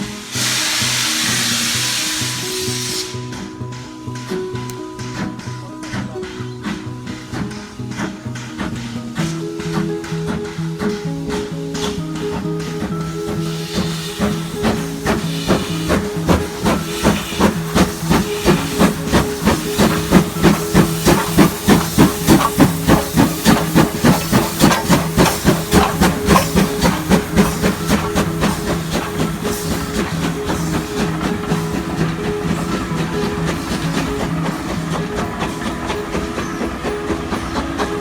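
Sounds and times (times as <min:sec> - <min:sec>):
steam hiss: 0:00.0 - 0:38.0
steam locomotive chuffing: 0:00.0 - 0:38.0.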